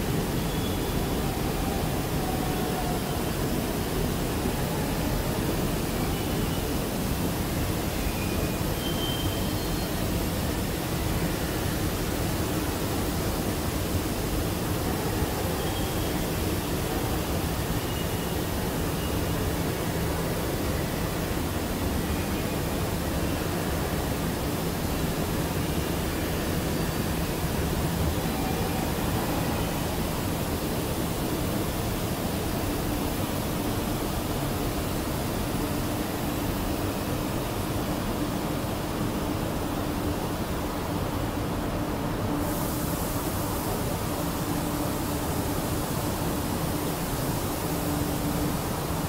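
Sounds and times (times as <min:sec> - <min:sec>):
factory background rush: 0:00.0 - 0:49.0.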